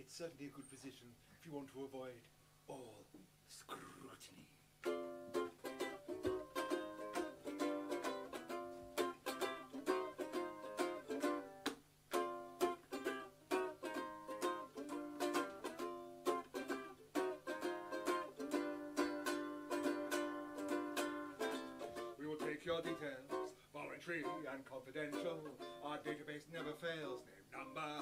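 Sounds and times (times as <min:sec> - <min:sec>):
ukulele strumming chords: 0:04.8 - 0:28.0.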